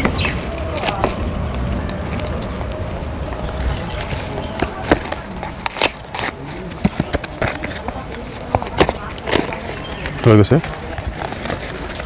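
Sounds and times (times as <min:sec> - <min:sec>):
cardboard parcel crinkling and tapping: 0:00.0 - 0:12.0
road traffic rumble: 0:00.0 - 0:12.0.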